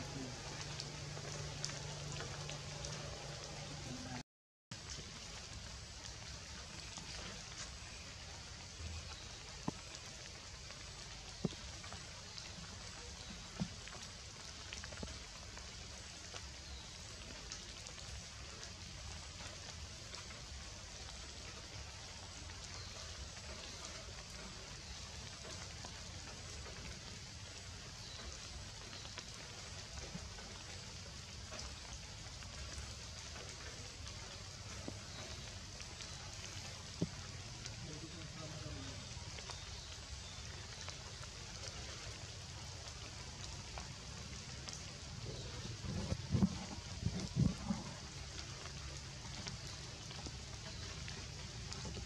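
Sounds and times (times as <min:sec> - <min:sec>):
rain on leaves: 0:00.0 - 0:52.0
water drips ticking: 0:00.0 - 0:52.0.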